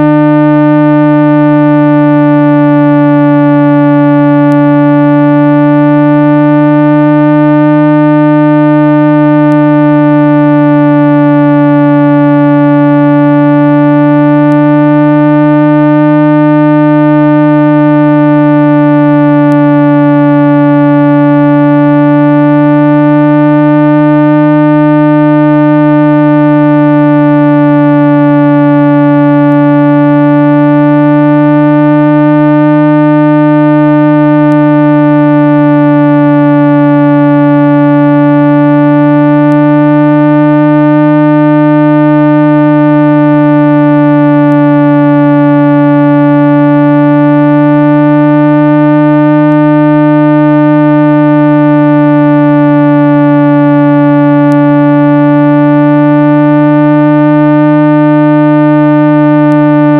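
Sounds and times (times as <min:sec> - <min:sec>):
buzzy electronic tone: 0:00.0 - 0:59.9.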